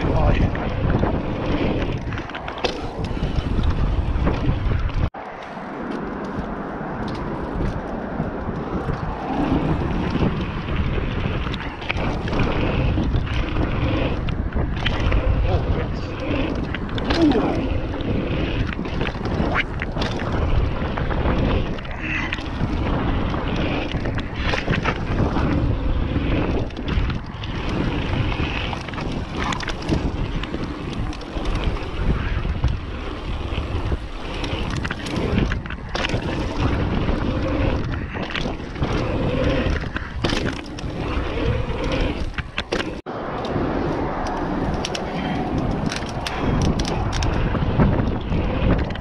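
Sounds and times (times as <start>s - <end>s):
bike knocks and rattles: 0.0s - 49.0s
bike tyre rumble: 0.0s - 49.0s
wind buffeting microphone: 0.0s - 49.0s.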